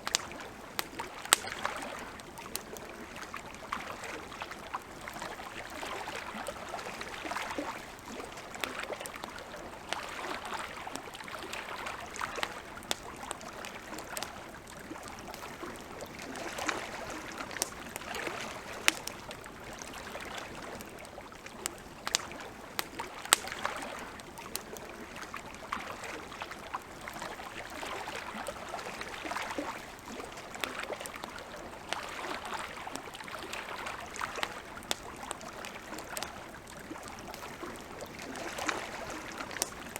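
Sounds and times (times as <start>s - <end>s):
campfire crackling: 0.0s - 39.9s
lake water lapping: 0.0s - 39.9s.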